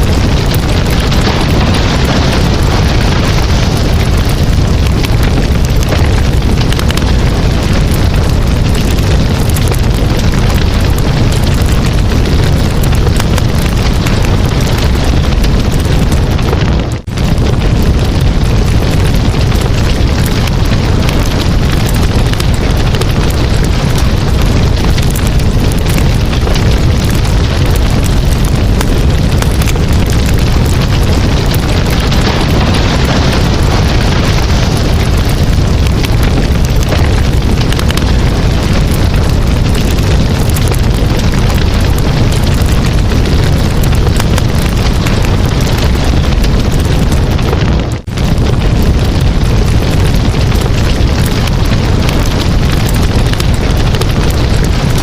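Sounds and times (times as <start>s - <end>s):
campfire roaring and crackling: 0.0s - 55.0s.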